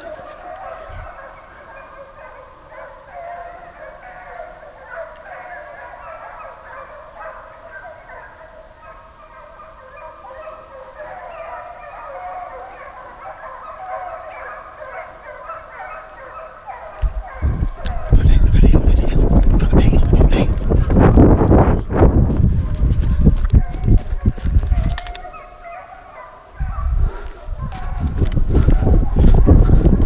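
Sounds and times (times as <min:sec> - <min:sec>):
hounds baying: 0:00.0 - 0:30.0.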